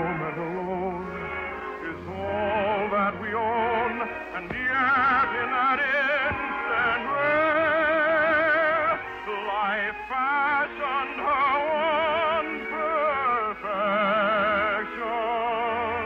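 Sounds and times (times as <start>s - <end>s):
operatic voice singing with vibrato: 0.0s - 16.0s.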